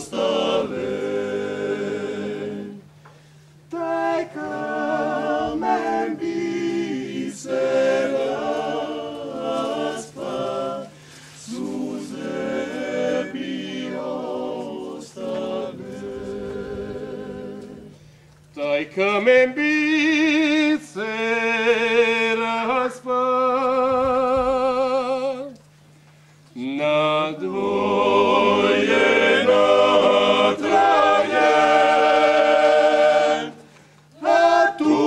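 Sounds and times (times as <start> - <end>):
male choir singing a cappella: 0.0 - 3.0, 3.7 - 18.0, 18.6 - 25.5, 26.6 - 35.0.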